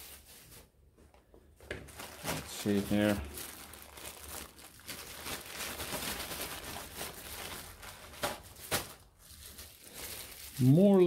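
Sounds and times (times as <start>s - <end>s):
plastic bag rustling and crinkling: 0.0s - 0.8s, 1.6s - 11.0s.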